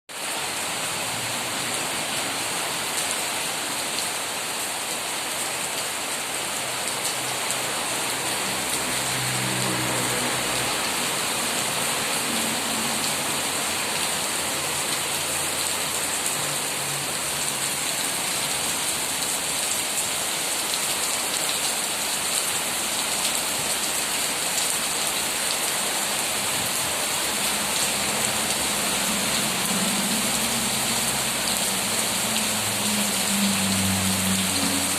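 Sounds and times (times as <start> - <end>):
rain pattering on leaves: 0.1 - 34.9.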